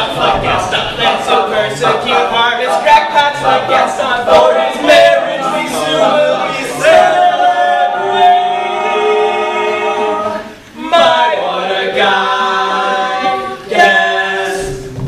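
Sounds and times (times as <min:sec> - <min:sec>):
male group singing in harmony: 0:00.0 - 0:15.0.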